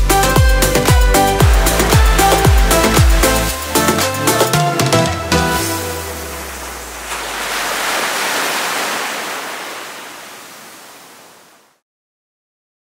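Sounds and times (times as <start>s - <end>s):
small waves breaking on beach: 1.4s - 11.8s.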